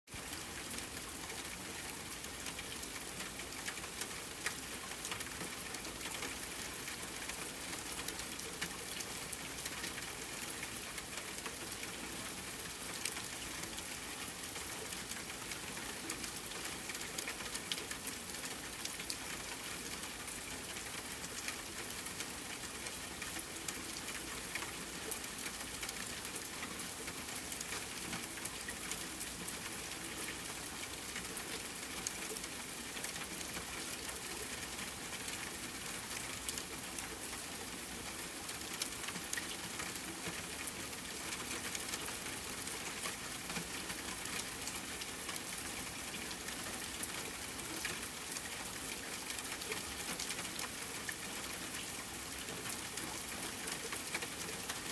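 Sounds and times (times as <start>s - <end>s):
rain falling: 0.1s - 54.9s.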